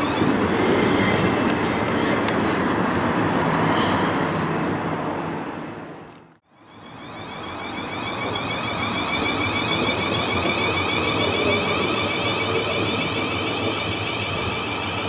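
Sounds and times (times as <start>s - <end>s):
train wheels rumbling on rails: 0.0s - 4.9s, 7.4s - 15.0s.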